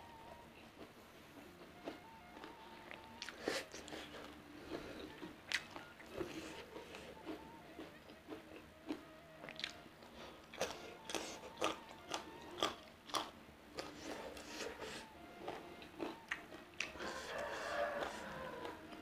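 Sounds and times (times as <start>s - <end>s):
person chewing crunchy food: 0.7s - 19.0s.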